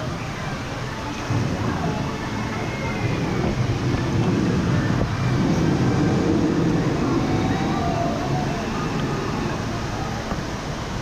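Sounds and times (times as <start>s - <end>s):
faint distant voices: 0.0s - 11.0s
whitewater river rushing: 0.0s - 11.0s
low rumble: 1.1s - 10.6s.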